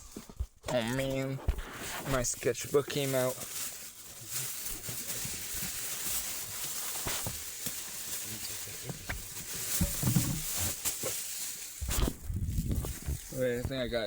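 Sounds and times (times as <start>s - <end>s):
rustling of belongings: 0.0s - 14.0s.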